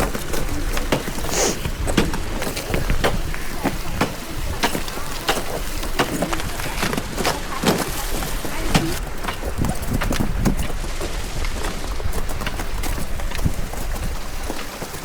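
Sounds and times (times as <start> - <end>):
footsteps crunching on ice: 0.0 - 15.0
rain on microphone: 0.0 - 15.0
wind on microphone: 0.0 - 15.0.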